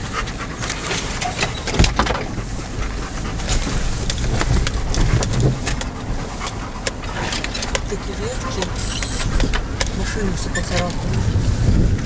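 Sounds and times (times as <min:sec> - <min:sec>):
branches scraping car body: 0:00.0 - 0:12.0
engine and tyres rumbling: 0:00.0 - 0:12.0.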